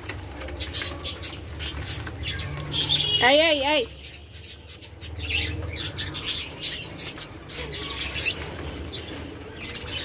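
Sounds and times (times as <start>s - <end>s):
doves scratching on newspaper: 0.0s - 10.0s.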